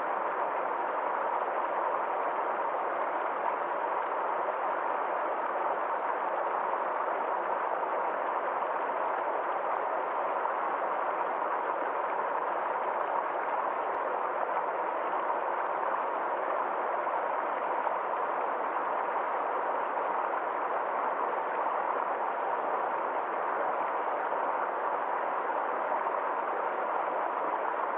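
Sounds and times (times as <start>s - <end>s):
forest stream flowing: 0.0s - 27.9s.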